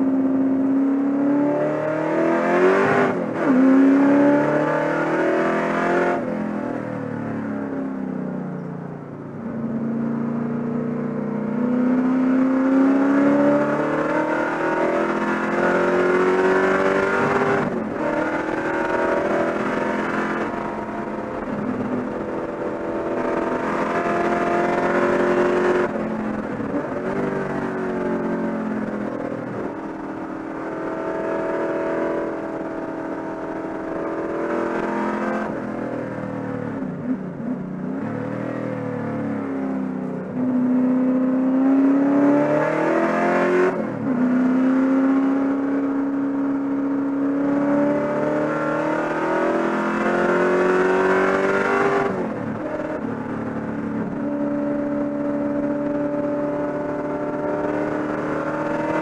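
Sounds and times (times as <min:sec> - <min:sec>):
race car engine revving: 0:00.8 - 0:06.5, 0:09.7 - 0:59.0.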